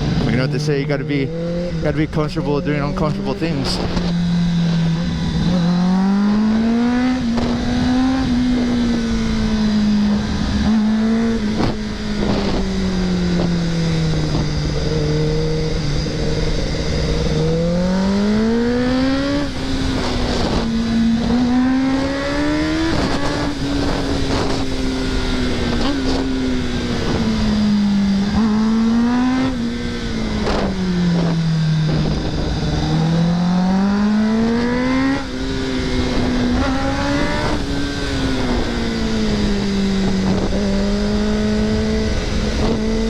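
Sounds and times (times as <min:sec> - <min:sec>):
wind rush on microphone: 0:00.0 - 0:00.6, 0:01.3 - 0:43.0
motorcycle engine revving: 0:00.0 - 0:43.0.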